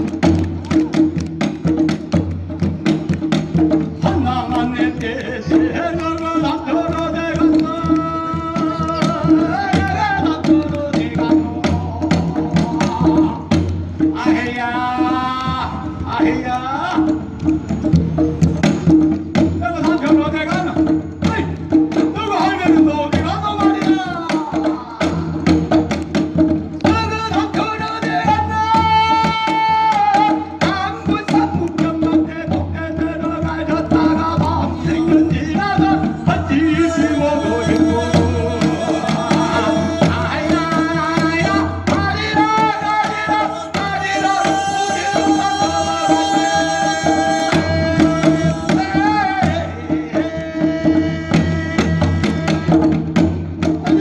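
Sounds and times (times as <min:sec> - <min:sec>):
hand drums beating: 0:00.0 - 0:54.0.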